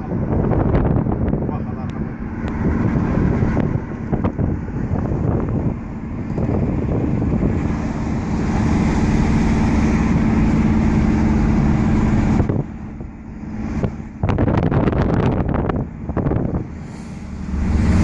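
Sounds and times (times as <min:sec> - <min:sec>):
car engine and road noise: 0:00.0 - 0:18.0
low drone: 0:00.0 - 0:18.0.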